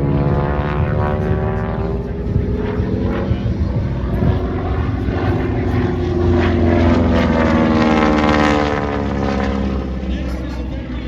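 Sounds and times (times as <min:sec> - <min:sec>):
propeller airplane flying past: 0:00.0 - 0:11.0.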